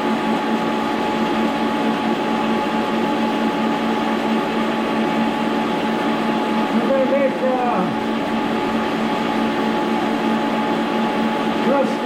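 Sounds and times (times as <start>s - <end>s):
milling machine hum and whine: 0.0s - 12.0s.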